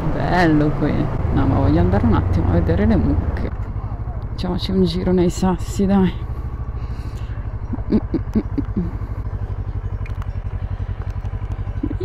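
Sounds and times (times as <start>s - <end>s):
motorcycle engine idling: 0.5s - 12.0s.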